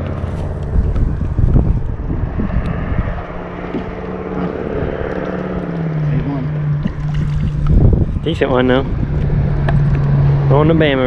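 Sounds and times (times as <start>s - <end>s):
steady low hum: 0.0s - 11.0s
wind buffeting microphone: 0.0s - 11.0s.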